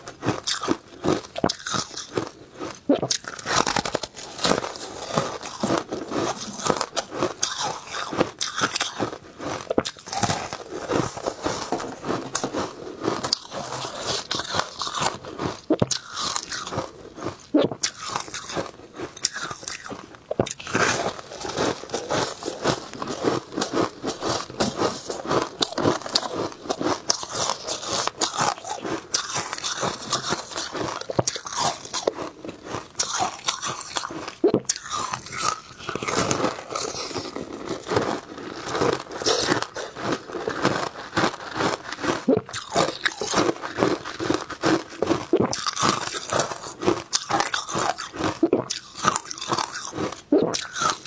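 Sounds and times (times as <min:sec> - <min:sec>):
shaved ice crunching: 0:00.2 - 0:51.0.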